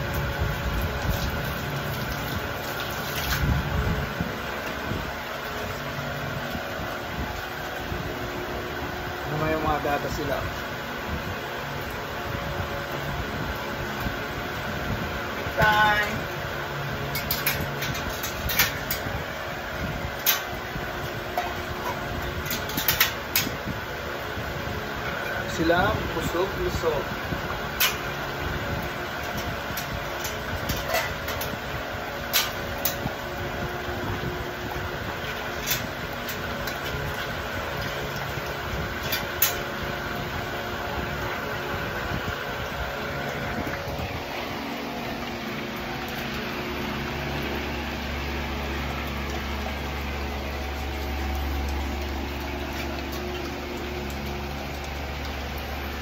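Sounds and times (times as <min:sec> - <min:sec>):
electric fan whirring: 0:00.0 - 0:56.0
mechanical hum: 0:00.0 - 0:56.0.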